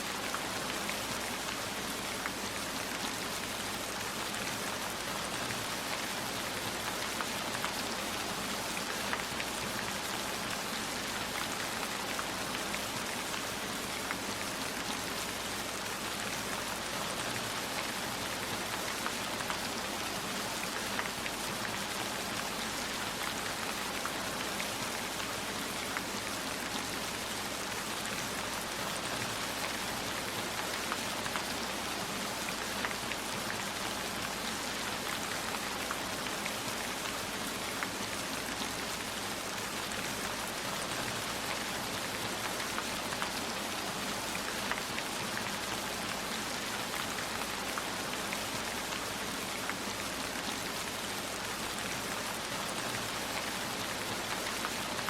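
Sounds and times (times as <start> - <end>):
heavy rainfall: 0.0 - 55.0.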